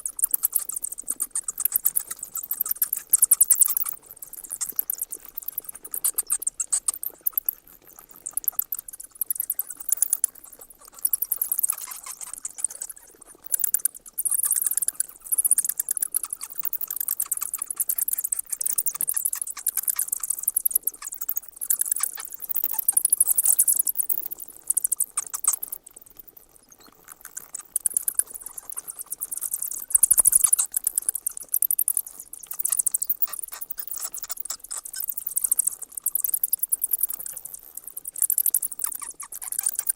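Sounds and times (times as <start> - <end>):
bats squeaking: 0.1 - 39.9.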